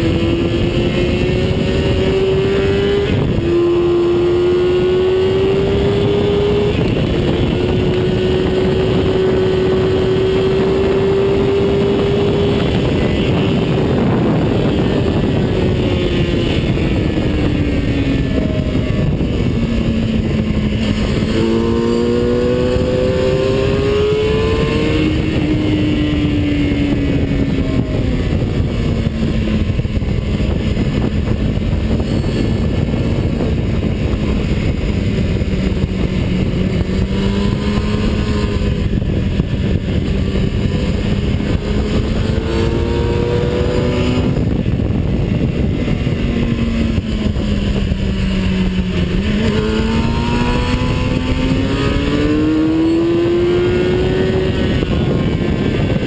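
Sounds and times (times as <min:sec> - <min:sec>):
race car engine: 0:00.0 - 0:56.0
wind noise: 0:00.0 - 0:56.0.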